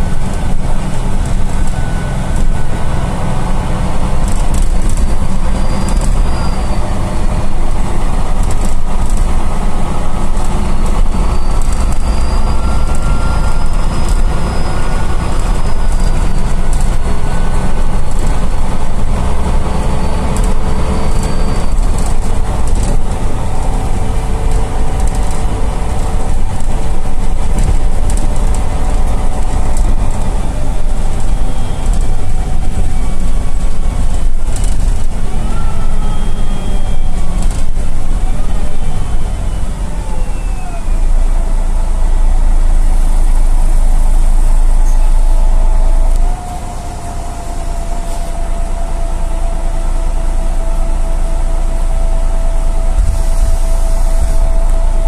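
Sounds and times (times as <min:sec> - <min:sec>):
bus engine rumbling: 0:00.0 - 0:55.0
steady whine: 0:00.0 - 0:55.0.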